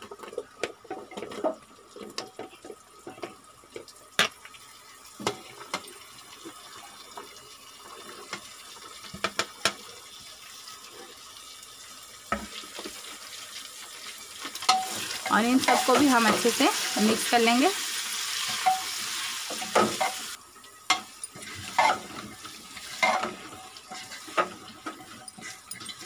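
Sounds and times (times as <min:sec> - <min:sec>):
hot oil hissing: 0:04.8 - 0:26.0.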